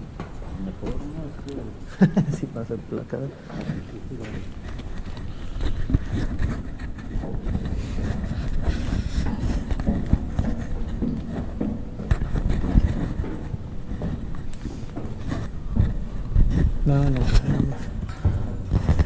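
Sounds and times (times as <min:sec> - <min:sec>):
footsteps on concrete: 0:00.0 - 0:19.0
wind buffeting microphone: 0:00.0 - 0:19.0.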